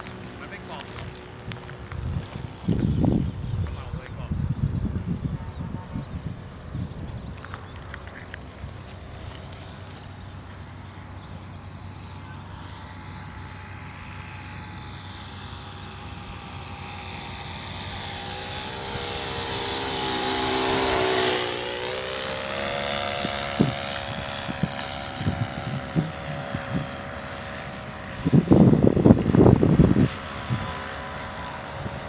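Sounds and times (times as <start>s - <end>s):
propeller plane flying past: 0.0s - 32.0s.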